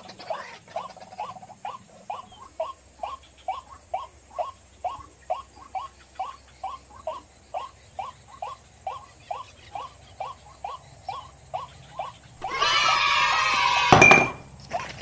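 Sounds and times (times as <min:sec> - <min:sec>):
waterhen calling: 0:00.0 - 0:14.8.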